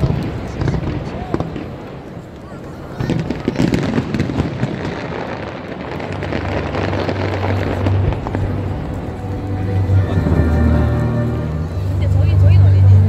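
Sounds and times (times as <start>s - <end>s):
fireworks bursting and crackling: 0.0s - 12.9s.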